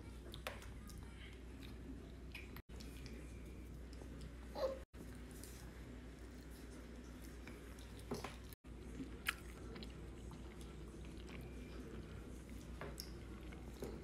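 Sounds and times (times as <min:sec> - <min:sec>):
faint chewing: 0:00.0 - 0:14.0
low steady hum: 0:00.0 - 0:14.0.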